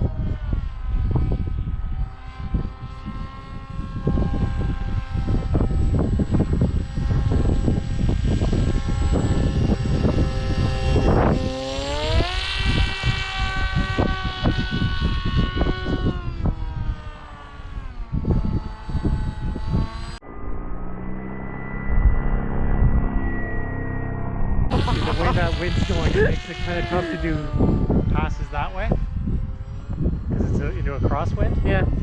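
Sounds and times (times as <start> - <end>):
wind buffeting microphone: 0.0 - 20.2, 24.5 - 32.0
electric motor and propeller whining: 0.0 - 32.0.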